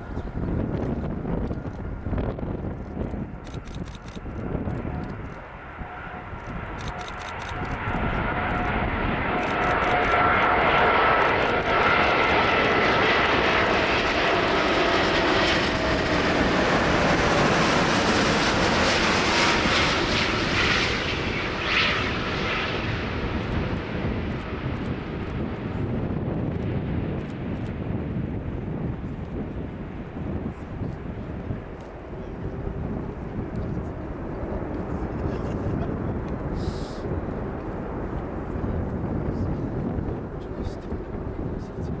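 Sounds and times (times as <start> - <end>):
jet engine noise: 0.0 - 42.0.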